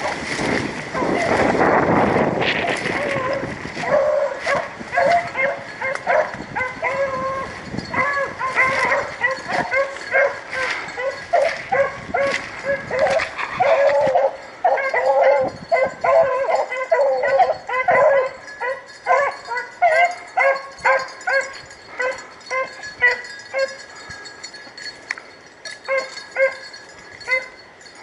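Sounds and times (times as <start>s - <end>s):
hounds baying: 0.9s - 25.0s, 25.6s - 28.0s.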